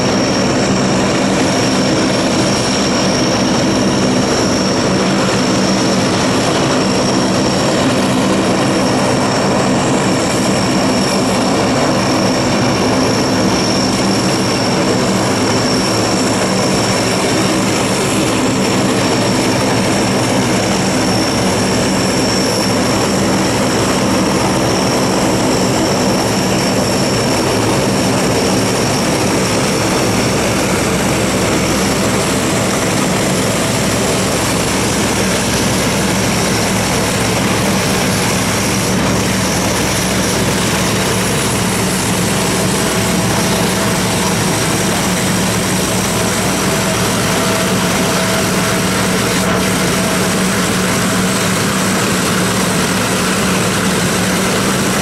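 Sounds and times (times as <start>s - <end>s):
high turbine whine: 0.0s - 55.0s
propeller aircraft engines drone: 0.0s - 55.0s.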